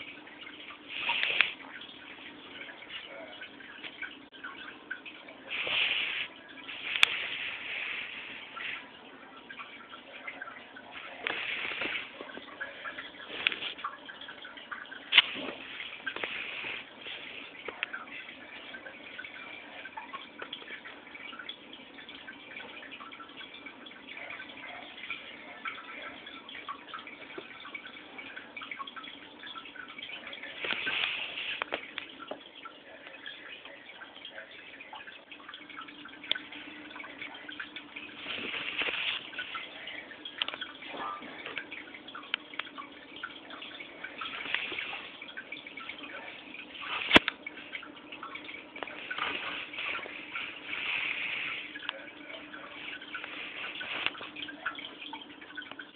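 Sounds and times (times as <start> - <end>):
aquarium water dripping: 0.0 - 55.9.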